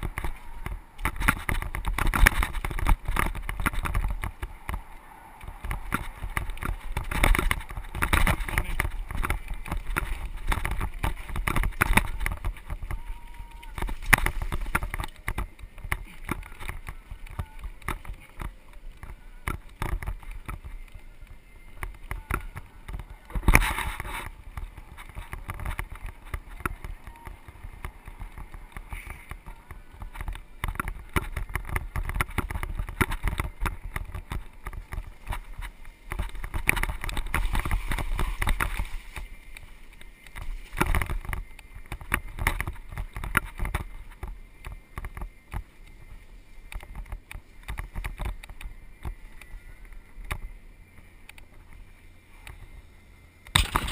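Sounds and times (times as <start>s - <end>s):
mountain bike rattling over dirt trail: 0.0s - 53.9s.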